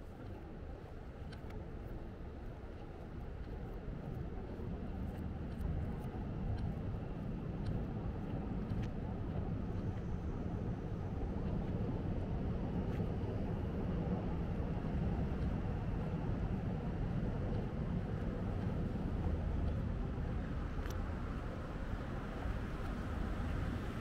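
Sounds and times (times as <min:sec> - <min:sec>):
reversed city traffic rumble: 0:00.0 - 0:24.0.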